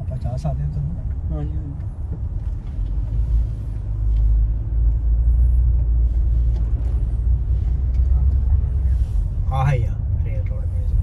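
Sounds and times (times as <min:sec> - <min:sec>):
engine and road rumble in car: 0:00.0 - 0:11.0.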